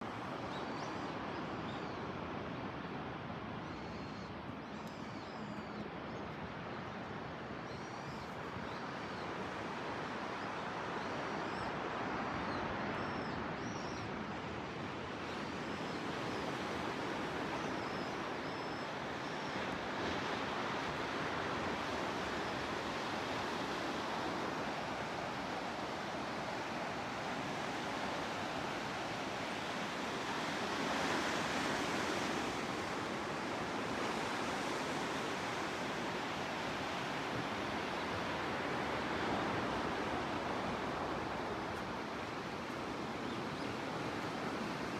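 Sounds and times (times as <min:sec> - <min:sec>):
calm waves breaking on beach: 0:00.0 - 0:44.9.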